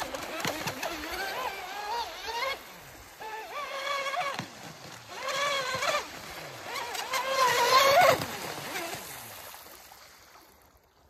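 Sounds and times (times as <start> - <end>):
electric motor whining: 0.0 - 9.0.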